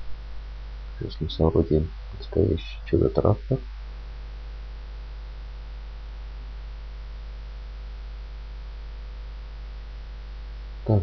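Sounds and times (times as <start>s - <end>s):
electrical mains hum: 0.0s - 11.0s
low hiss: 0.0s - 11.0s.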